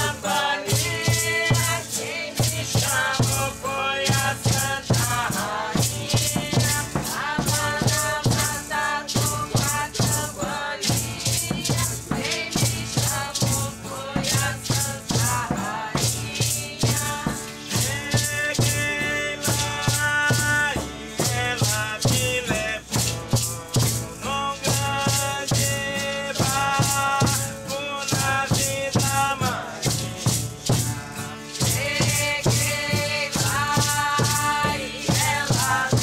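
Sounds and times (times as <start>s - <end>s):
voices chanting: 0.0s - 25.2s, 31.0s - 36.0s
hand rattles shaken: 0.0s - 36.0s.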